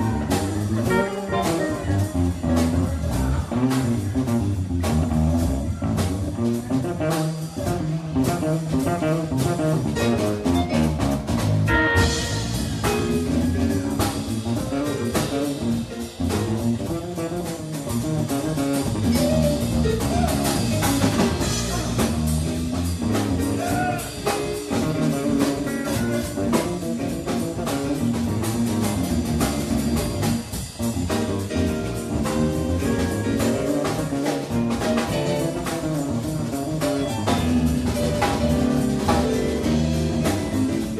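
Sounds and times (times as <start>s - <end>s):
drum kit beat: 0.0s - 40.9s
electric guitars: 0.0s - 40.9s.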